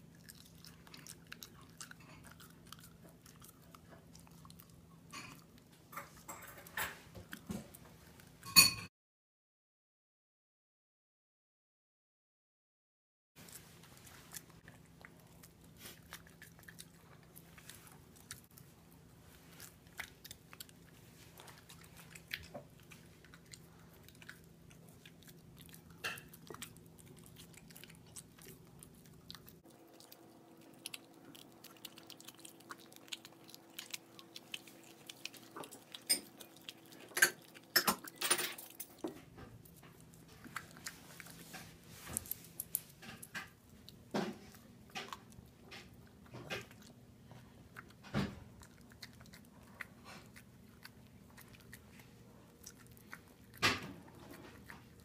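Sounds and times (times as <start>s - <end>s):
dog gnawing on a bone: 0.0s - 8.4s, 13.4s - 55.0s.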